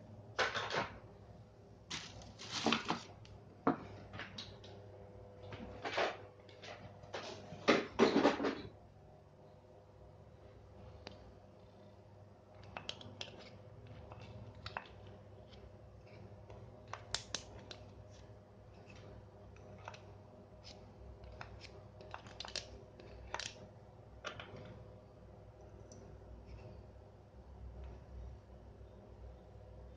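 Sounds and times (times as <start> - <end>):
faint low hum: 0.0 - 29.9.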